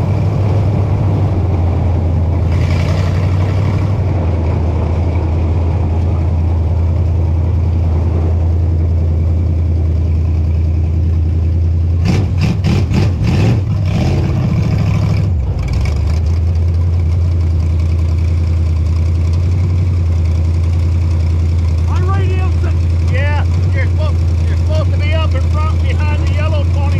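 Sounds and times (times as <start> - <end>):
race car engine idling: 0.0 - 26.9.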